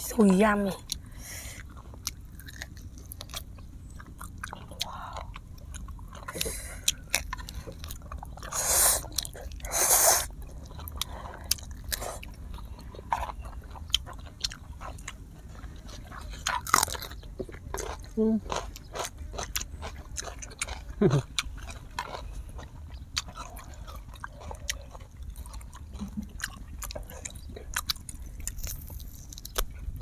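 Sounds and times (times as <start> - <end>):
chewing and biting: 0.8 - 30.0.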